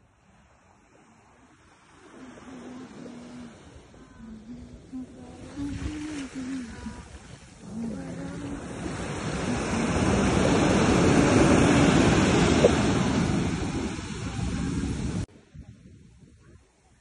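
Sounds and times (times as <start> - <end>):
sea wave breaking on beach: 1.5 - 15.3.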